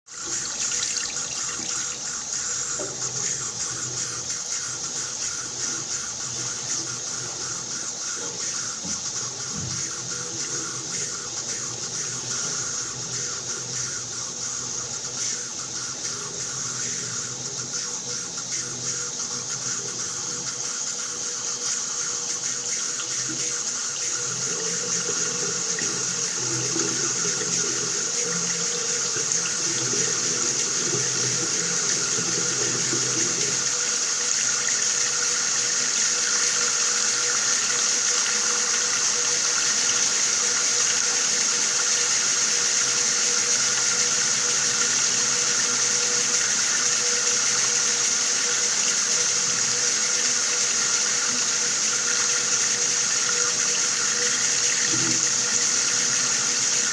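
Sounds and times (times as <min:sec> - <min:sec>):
water running from a tap: 0:00.1 - 0:56.9.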